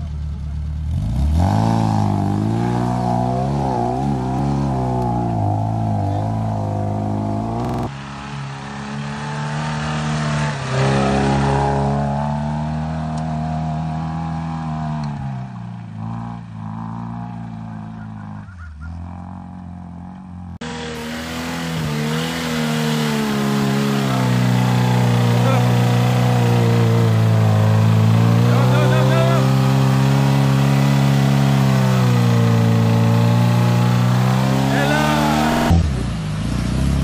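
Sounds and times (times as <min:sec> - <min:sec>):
engine revving under load: 0:00.8 - 0:37.0.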